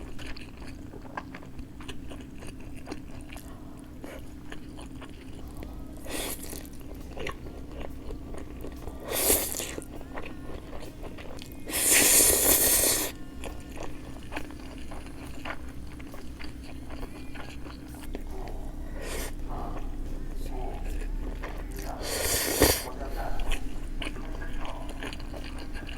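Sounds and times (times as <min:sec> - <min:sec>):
close-miked chewing: 0:00.0 - 0:25.9.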